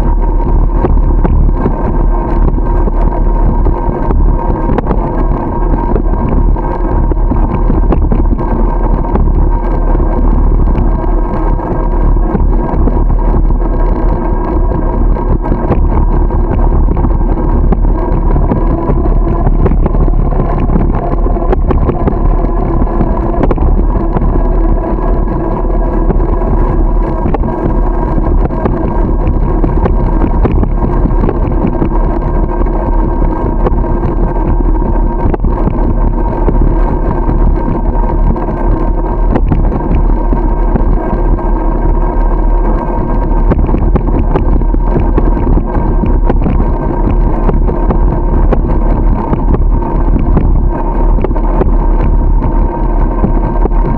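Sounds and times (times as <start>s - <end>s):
faint constant hum: 0.0s - 53.9s
road rumble: 0.0s - 53.9s
wind rush on microphone: 0.0s - 53.9s.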